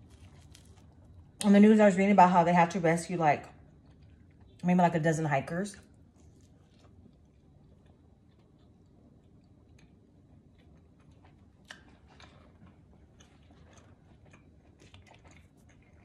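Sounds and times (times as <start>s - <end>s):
quiet chewing: 0.0s - 1.5s, 3.4s - 4.7s, 5.8s - 16.0s.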